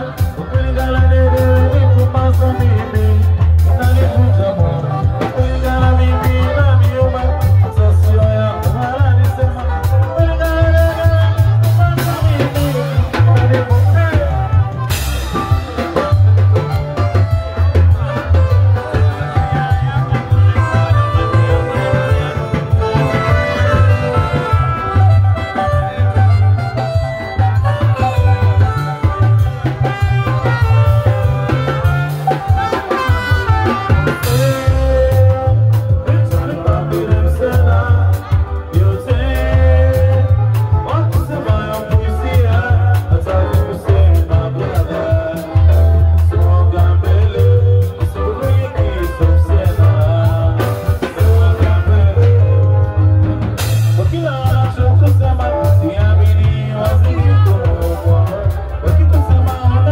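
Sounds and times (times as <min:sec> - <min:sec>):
heavy bass line: 0:00.0 - 0:59.9
live band music through loudspeakers: 0:00.0 - 0:59.9
man singing into a microphone: 0:00.0 - 0:59.9
steady drum beat: 0:00.0 - 0:59.9.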